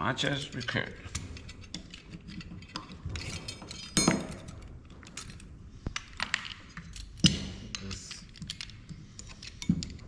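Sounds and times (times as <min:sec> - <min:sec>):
metal and plastic parts clattering: 0:00.2 - 0:10.0.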